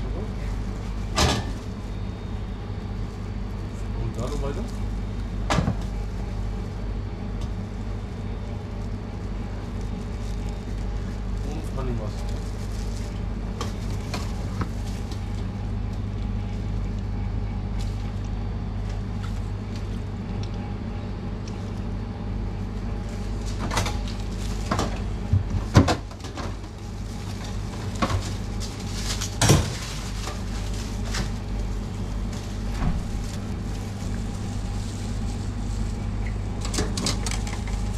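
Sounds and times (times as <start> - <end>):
machinery humming: 0.0 - 37.9.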